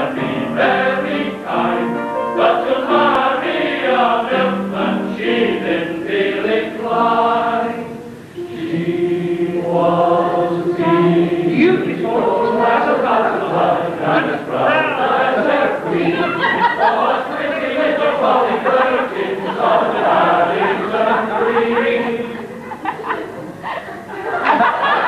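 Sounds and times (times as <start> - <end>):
male voice choir singing: 0.0 - 22.7.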